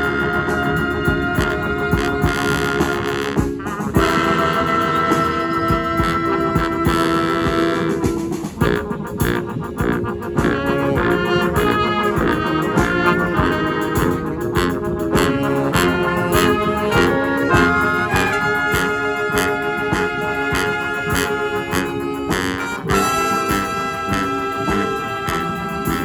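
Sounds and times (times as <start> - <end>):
brass horns sustained notes: 0.0 - 26.0
steady drum beat: 0.0 - 26.0.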